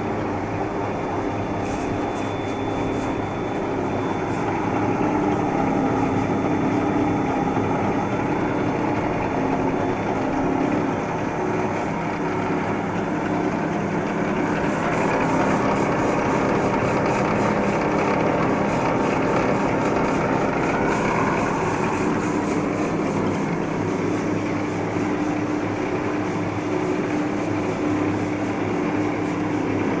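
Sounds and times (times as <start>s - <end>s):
lathe running with whining hum: 0.0s - 30.0s.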